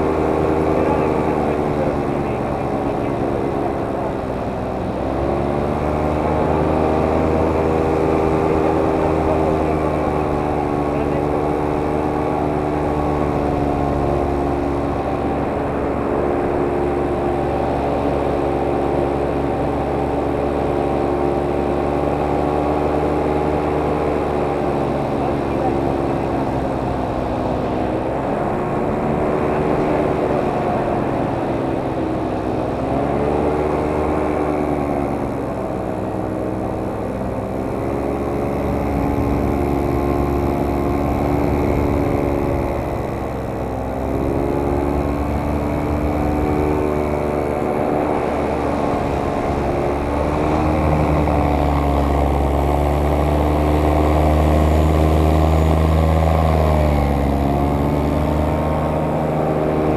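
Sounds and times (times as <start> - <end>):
boat engine rumble: 0.0 - 59.9
drone propellers humming: 0.0 - 59.9.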